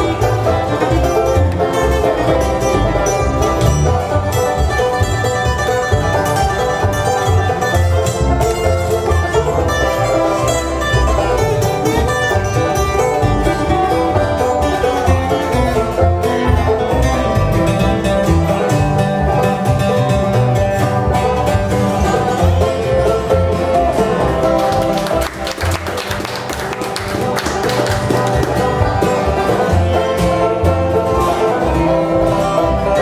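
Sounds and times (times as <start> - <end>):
banjo: 0.0 - 33.0
lap slide guitar: 0.0 - 33.0
strummed acoustic guitar: 0.0 - 33.0
upright bass: 0.0 - 33.0.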